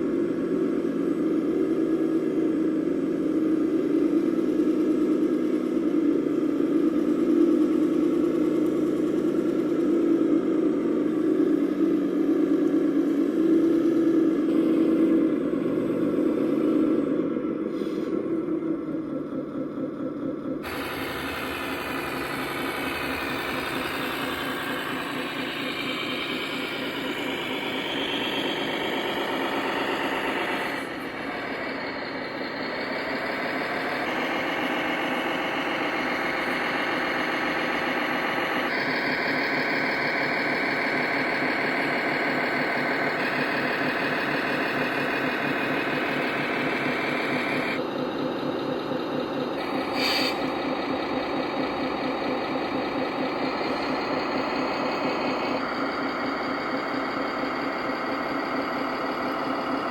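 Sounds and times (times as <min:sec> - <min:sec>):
simulated diesel engine: 0:00.0 - 0:59.9.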